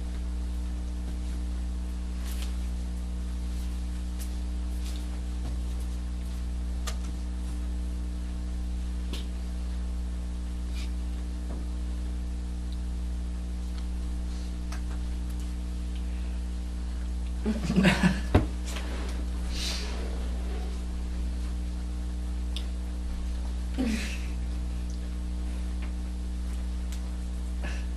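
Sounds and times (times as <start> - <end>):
electrical mains hum: 0.0 - 27.9.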